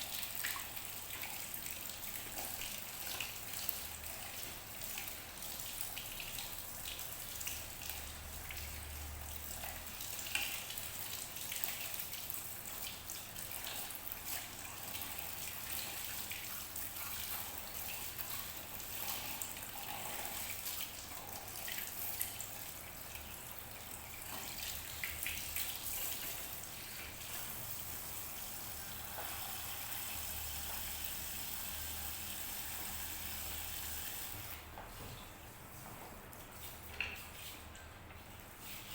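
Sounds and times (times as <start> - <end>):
water dripping: 0.0 - 38.9
water trickling and splashing: 0.0 - 38.9.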